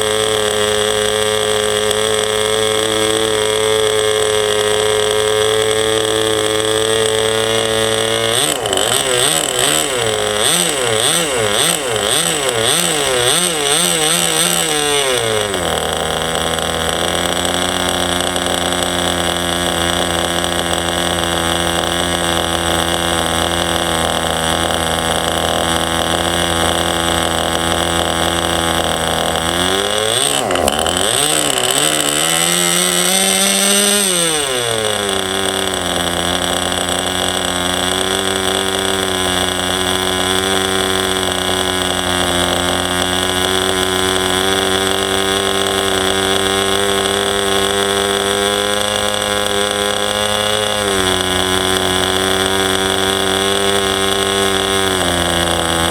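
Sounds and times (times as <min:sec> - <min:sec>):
small two-stroke engine running: 0:00.0 - 0:55.9.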